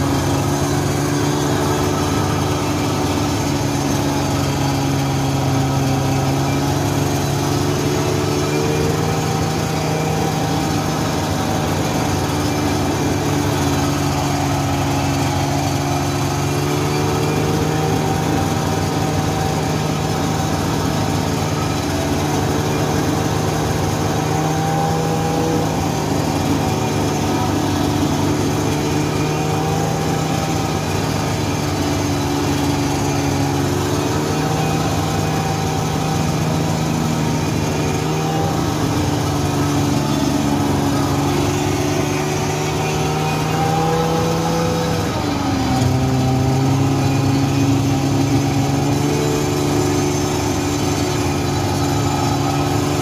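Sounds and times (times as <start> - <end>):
snowmobile engine running: 0.0 - 53.0.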